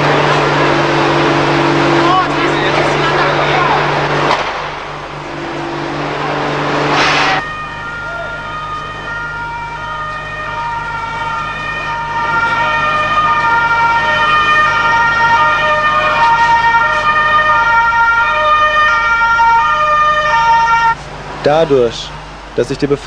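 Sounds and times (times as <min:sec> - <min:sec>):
two-tone police siren wailing: 0:00.0 - 0:21.0.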